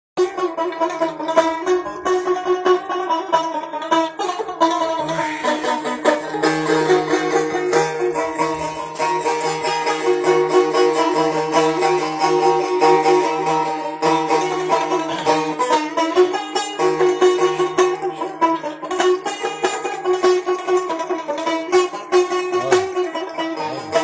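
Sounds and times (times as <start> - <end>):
plucked string instrument melody: 0.2 - 24.0.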